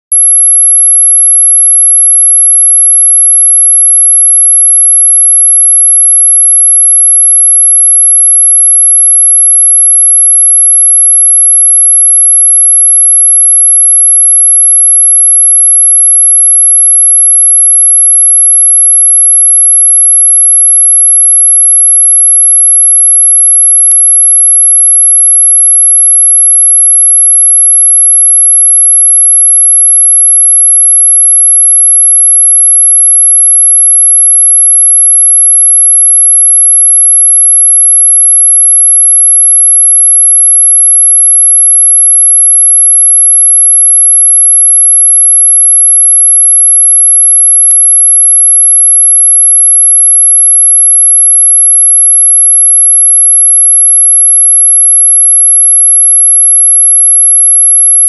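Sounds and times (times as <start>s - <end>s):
high-pitched electronic sine tone: 0.0s - 58.0s.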